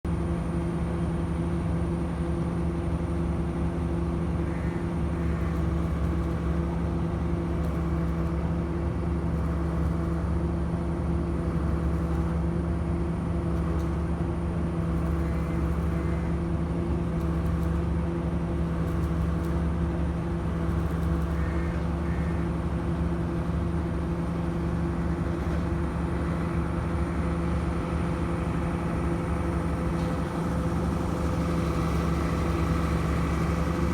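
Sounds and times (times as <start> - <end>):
heavy machinery engine running: 3.3 - 33.9.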